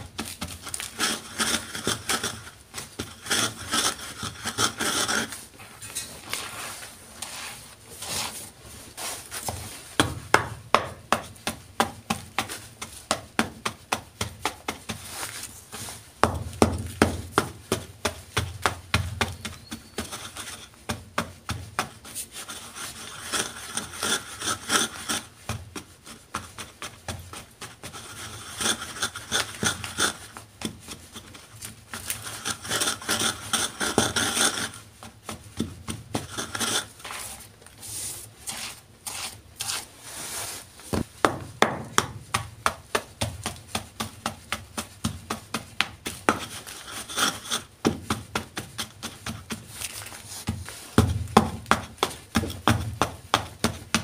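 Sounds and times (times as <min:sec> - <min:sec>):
stick grinding chalk powder: 0:00.0 - 0:41.1, 0:41.8 - 0:54.0.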